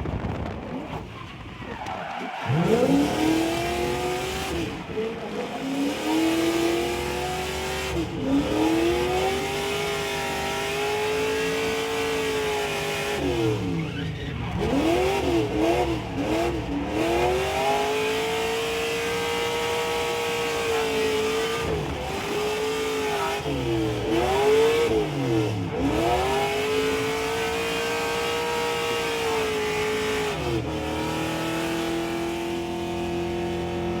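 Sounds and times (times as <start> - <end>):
downshifts with throttle blips: 0.0 - 34.0
race car engine at full throttle: 0.0 - 34.0.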